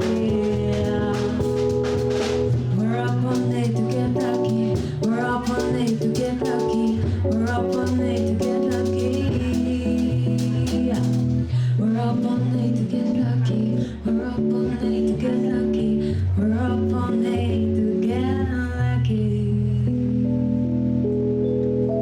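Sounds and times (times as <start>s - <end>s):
person singing: 0.0s - 20.1s
bass line: 0.0s - 22.0s.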